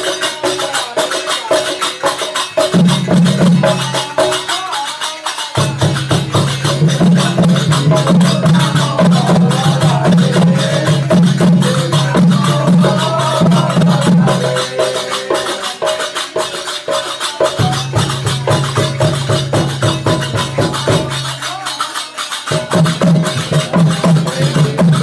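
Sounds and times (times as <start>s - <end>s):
barrel drum: 0.0s - 25.0s
rapid small percussion strokes: 0.0s - 25.0s
voices singing devotional song: 0.0s - 25.0s.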